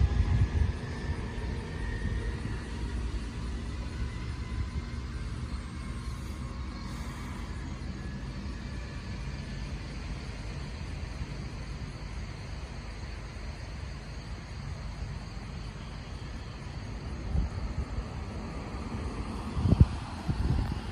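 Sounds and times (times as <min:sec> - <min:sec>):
background hiss: 0:00.0 - 0:20.9
low engine rumble: 0:00.0 - 0:20.9.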